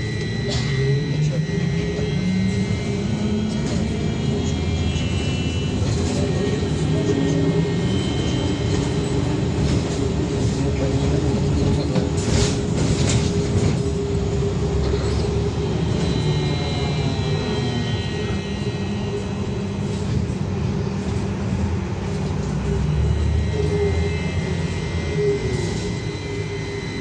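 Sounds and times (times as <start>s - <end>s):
electric drive whine: 0.0s - 27.0s.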